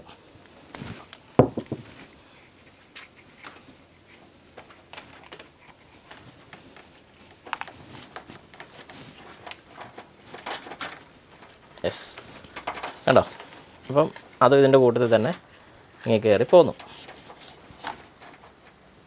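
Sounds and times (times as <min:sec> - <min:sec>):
faint clicks and rustles of cables: 0:00.0 - 0:19.0
handling noises: 0:00.5 - 0:19.0.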